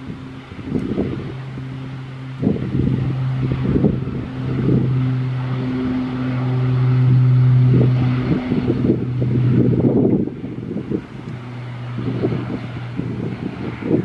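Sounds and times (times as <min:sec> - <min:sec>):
turboprop engines drone: 0:00.0 - 0:14.0
wind buffeting microphone: 0:00.0 - 0:14.0.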